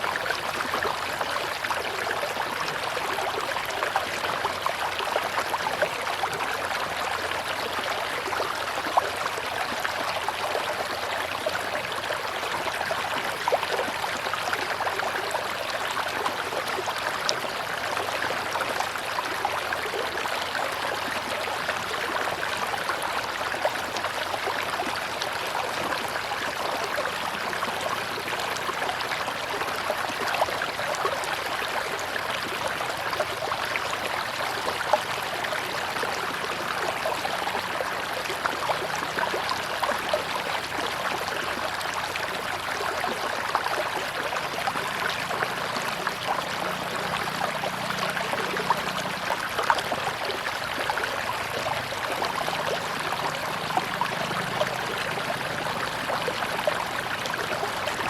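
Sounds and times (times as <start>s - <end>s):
river water rushing and babbling: 0.0s - 58.0s
small water splashes: 0.0s - 58.0s.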